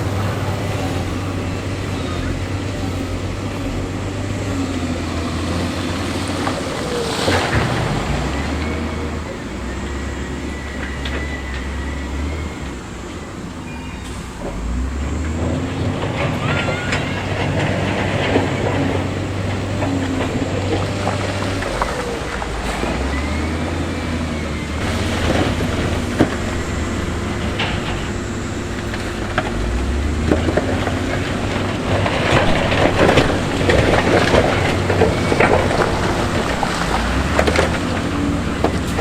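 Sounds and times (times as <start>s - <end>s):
diesel engine drone: 0.0s - 39.0s.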